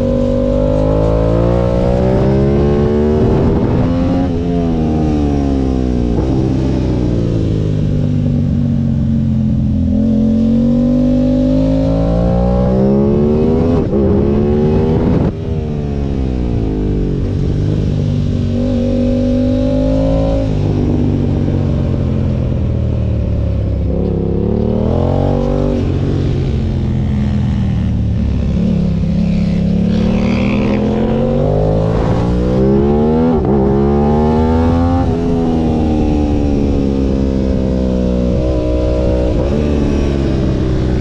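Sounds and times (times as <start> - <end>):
motorcycle engine revving: 0.0 - 41.0
wind noise: 0.0 - 41.0.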